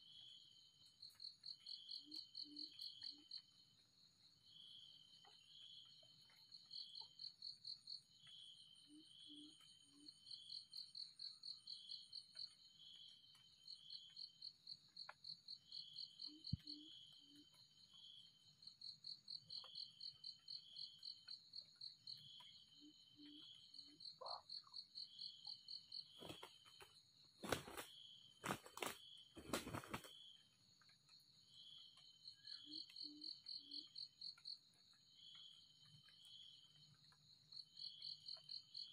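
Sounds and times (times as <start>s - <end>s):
insects chirping in pulsed trains: 0.0s - 27.3s, 29.0s - 38.9s.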